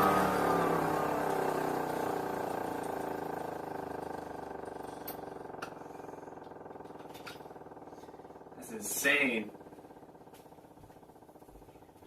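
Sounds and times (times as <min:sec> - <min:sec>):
mechanical sirens winding down: 0:00.0 - 0:12.0.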